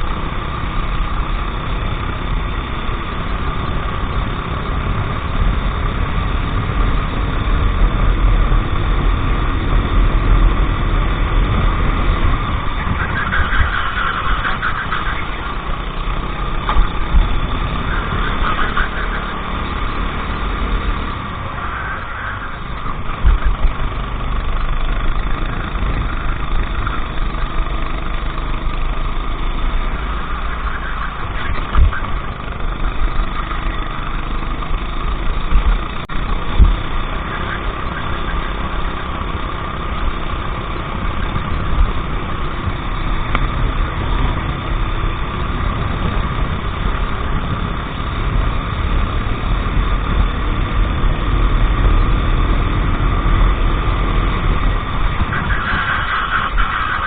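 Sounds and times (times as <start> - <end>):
kart engine rumbling: 0.0 - 57.0.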